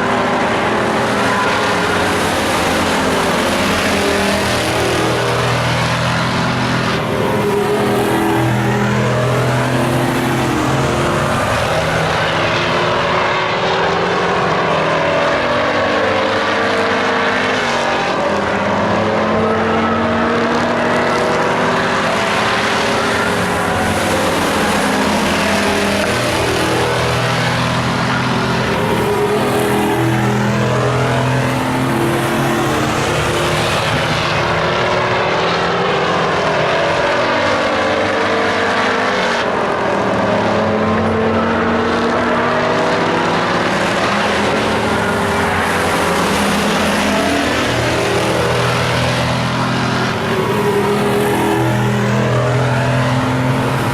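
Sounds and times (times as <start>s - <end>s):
race truck engines passing: 0.0s - 53.9s.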